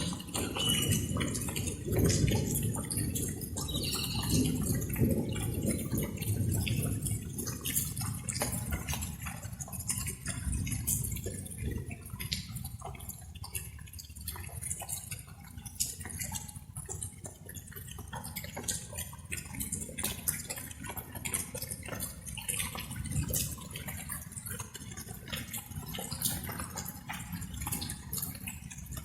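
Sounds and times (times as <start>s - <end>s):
light rain pattering: 0.0s - 29.0s.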